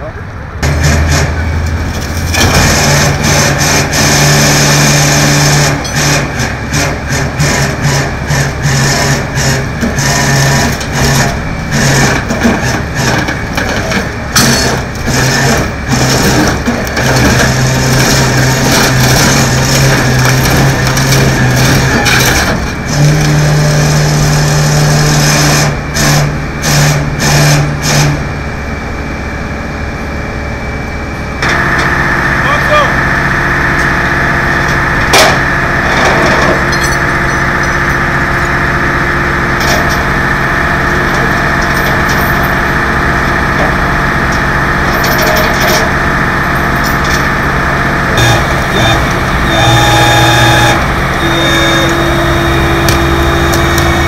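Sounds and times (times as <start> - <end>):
heavy truck engine running hard: 0.0 - 54.0
metal scraping and clanking: 0.6 - 28.2, 33.0 - 54.0.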